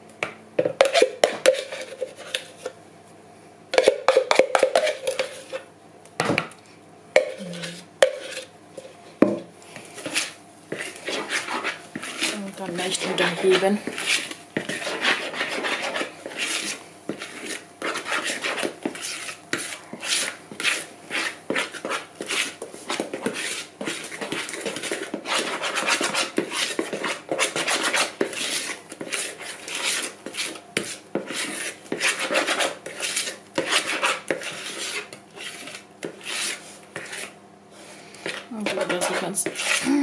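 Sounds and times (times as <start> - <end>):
utensil stirring batter in plastic jug: 0.7 - 2.7, 3.7 - 5.7, 9.7 - 37.4, 38.2 - 39.9.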